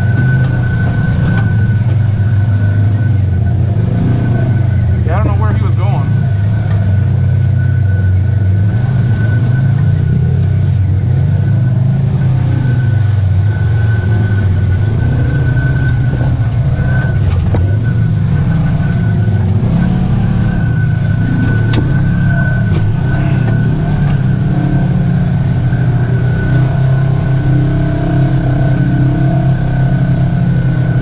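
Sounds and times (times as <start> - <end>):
off-road vehicle engine under load: 0.0 - 31.0.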